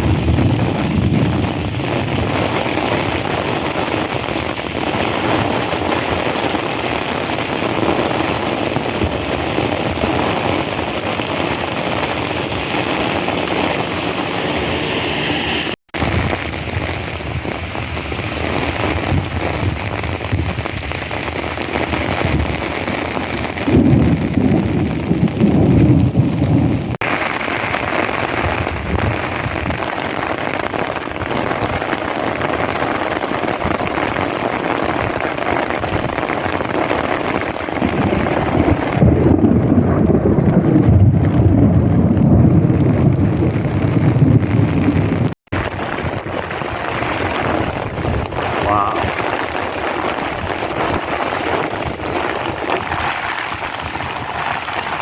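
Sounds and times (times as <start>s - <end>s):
heavy rain hissing: 0.0s - 25.1s, 26.8s - 39.0s, 43.8s - 55.0s.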